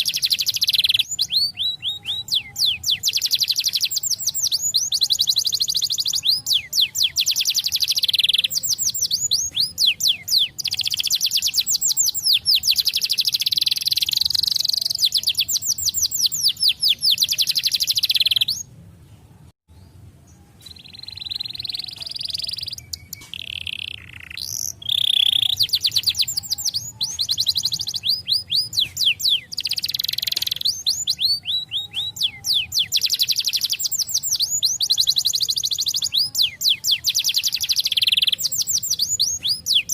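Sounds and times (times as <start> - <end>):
canary singing trills: 0.0 - 18.7, 19.7 - 39.9.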